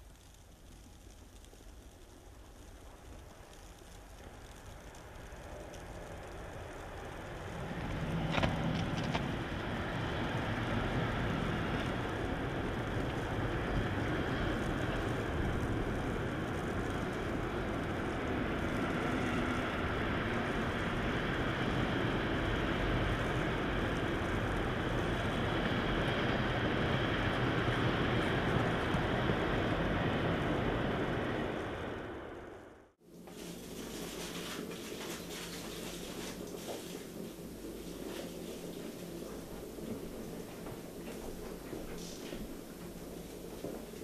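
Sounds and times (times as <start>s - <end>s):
train wheels rolling on rail: 3.2s - 32.6s, 35.6s - 44.0s.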